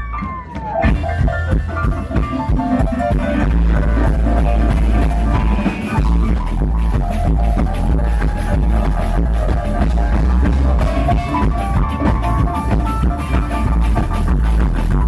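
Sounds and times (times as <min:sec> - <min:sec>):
live band jamming: 0:00.0 - 0:15.0.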